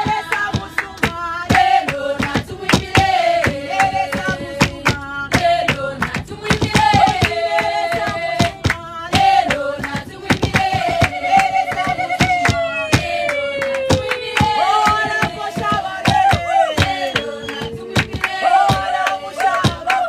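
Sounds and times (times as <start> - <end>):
rhythmic hand clapping: 0.0 - 20.0
women singing without instruments: 0.0 - 20.0.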